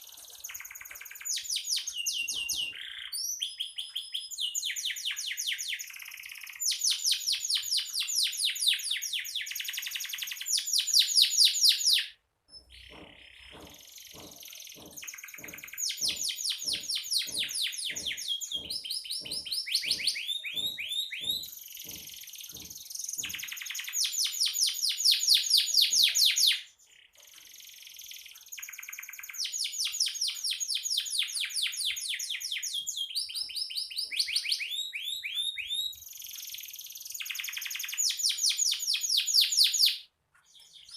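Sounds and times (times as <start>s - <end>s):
canary singing trills and chirps: 0.0s - 40.9s.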